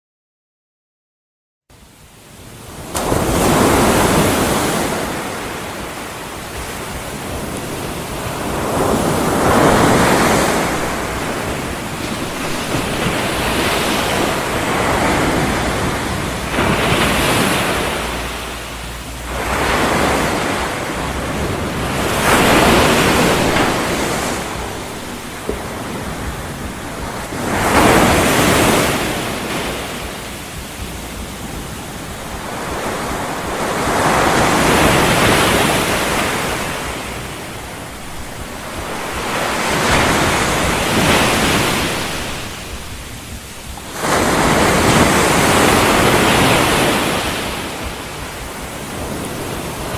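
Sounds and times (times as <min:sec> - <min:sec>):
ocean surf rushing: 0:01.8 - 0:49.9.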